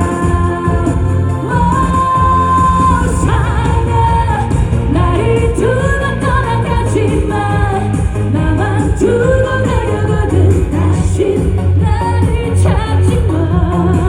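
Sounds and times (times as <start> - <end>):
pop backing track with bass beat: 0.0 - 14.0
woman singing with vibrato: 0.0 - 14.0.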